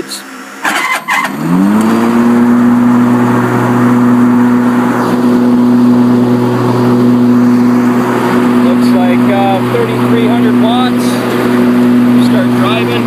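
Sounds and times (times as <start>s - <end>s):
mower blades whirring hum: 0.0s - 13.0s.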